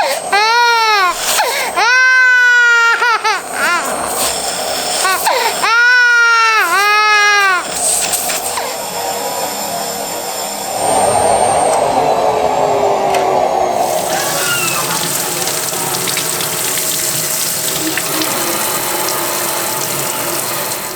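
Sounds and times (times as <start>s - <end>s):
vacuum cleaner suction hiss: 0.0s - 11.3s, 13.7s - 20.9s.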